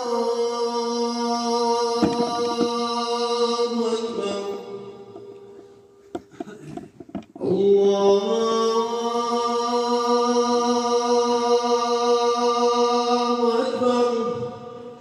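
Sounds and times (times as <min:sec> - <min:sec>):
man singing call to prayer: 0:00.0 - 0:05.5, 0:06.4 - 0:15.0.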